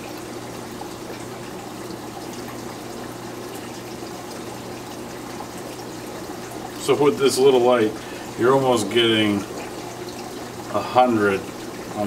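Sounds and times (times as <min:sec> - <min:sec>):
low pump hum: 0:00.0 - 0:12.0
water trickling into tank: 0:00.0 - 0:12.0.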